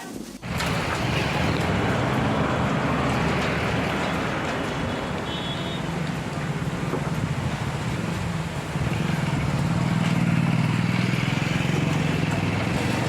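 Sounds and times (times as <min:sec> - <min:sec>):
traffic noise rush: 0:00.3 - 0:13.0
vehicle engines running: 0:00.4 - 0:13.0.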